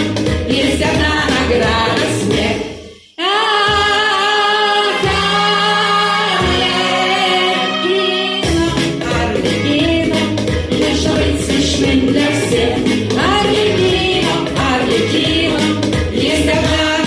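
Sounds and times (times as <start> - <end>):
pop song backing music: 0.0 - 17.0.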